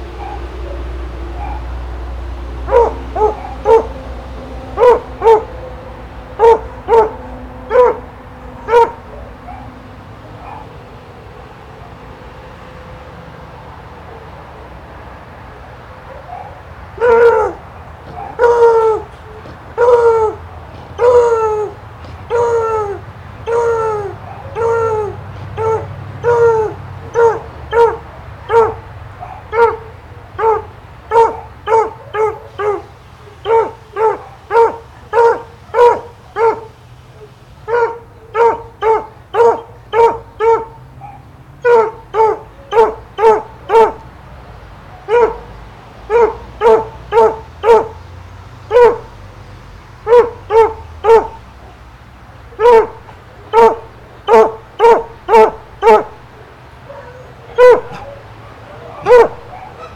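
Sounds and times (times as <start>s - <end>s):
dog barking: 0.1s - 1.8s, 2.6s - 4.0s, 4.7s - 5.7s, 6.4s - 10.9s, 16.0s - 44.2s, 44.9s - 48.0s, 48.7s - 49.2s, 50.0s - 51.8s, 52.4s - 59.9s.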